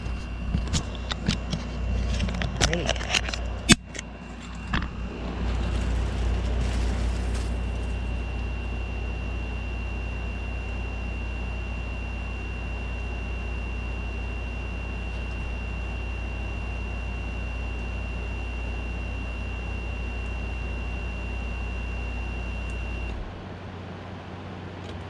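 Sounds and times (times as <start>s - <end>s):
thin high whine: 0.0s - 23.3s
air conditioner humming: 0.0s - 25.0s.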